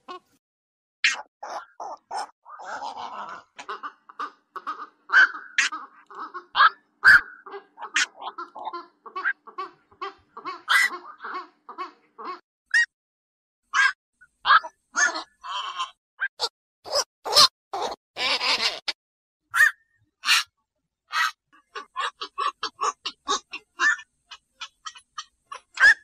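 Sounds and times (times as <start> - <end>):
herons croaking and squawking: 1.1 - 12.9, 13.7 - 18.9, 21.1 - 26.0.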